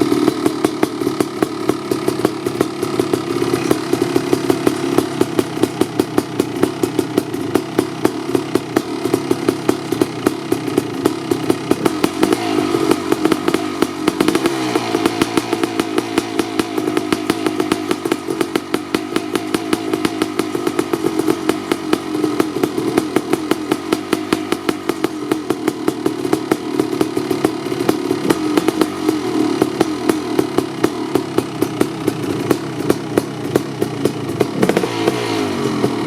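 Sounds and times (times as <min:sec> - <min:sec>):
two-stroke engine running: 0:00.0 - 0:36.0.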